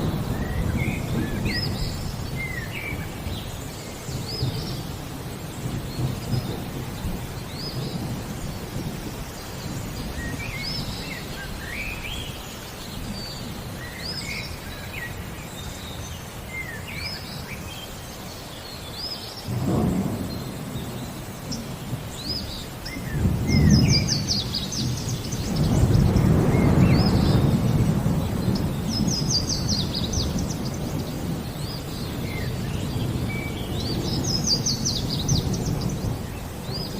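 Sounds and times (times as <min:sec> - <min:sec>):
thunder rumbling: 0:00.0 - 0:12.2, 0:19.5 - 0:36.9
songbirds chirping: 0:00.0 - 0:36.9.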